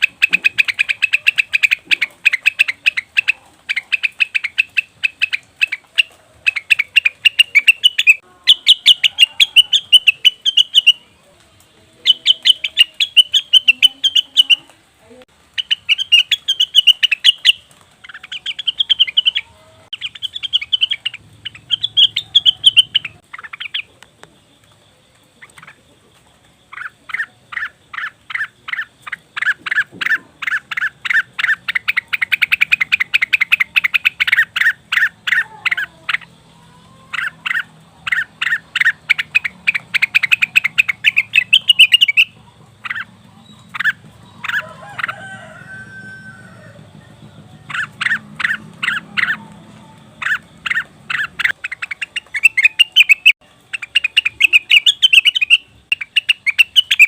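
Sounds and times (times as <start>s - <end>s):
bird sharp chattering call: 0.0s - 11.1s, 12.0s - 14.7s, 15.6s - 24.0s, 26.7s - 57.0s.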